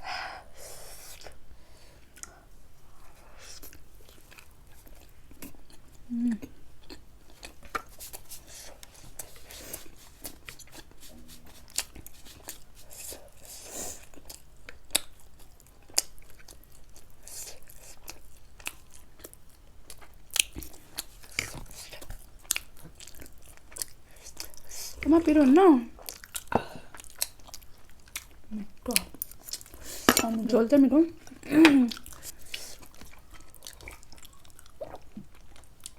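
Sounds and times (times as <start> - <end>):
person chewing: 3.5 - 25.0, 26.0 - 30.3, 31.2 - 35.9.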